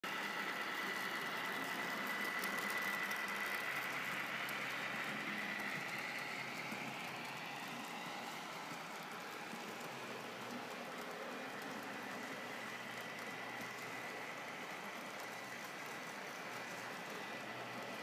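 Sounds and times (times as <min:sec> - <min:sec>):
wheels clicking on track: 0:00.0 - 0:18.0
model train motor whine: 0:00.1 - 0:18.0.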